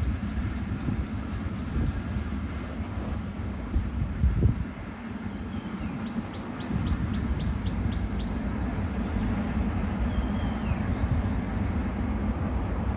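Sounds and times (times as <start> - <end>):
diesel locomotive engine rumbling: 0.0 - 12.9.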